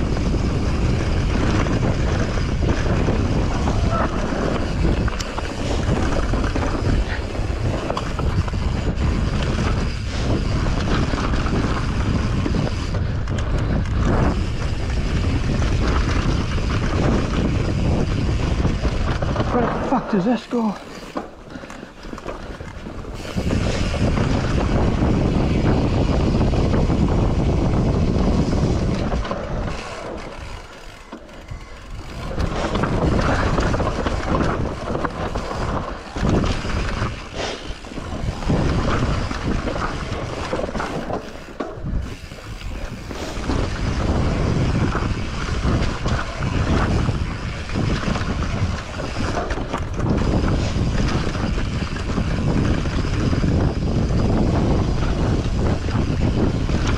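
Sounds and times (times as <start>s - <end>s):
bike tyres rumbling and rattling: 0.0s - 56.9s
wind buffeting microphone: 0.0s - 56.9s.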